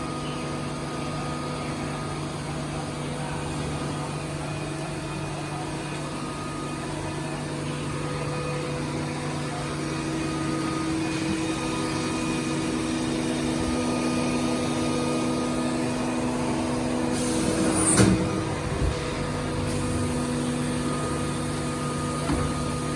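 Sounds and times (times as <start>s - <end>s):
milling machine humming: 0.0s - 22.9s.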